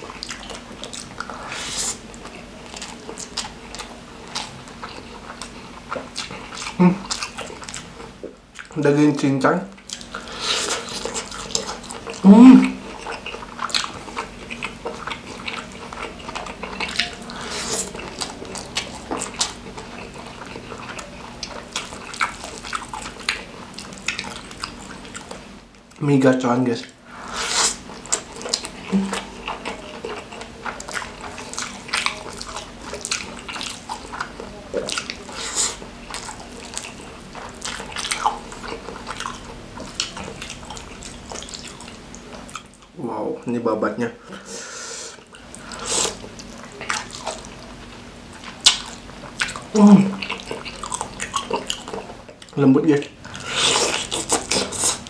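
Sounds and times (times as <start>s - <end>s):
wet chewing and lip-smacking: 0.0s - 8.8s, 9.7s - 26.0s, 27.6s - 43.0s, 45.2s - 55.0s.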